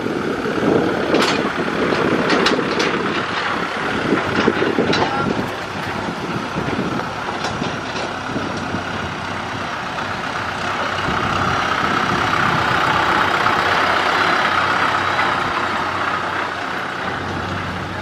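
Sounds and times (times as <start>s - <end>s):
tractor diesel engines driving past: 0.0s - 18.0s.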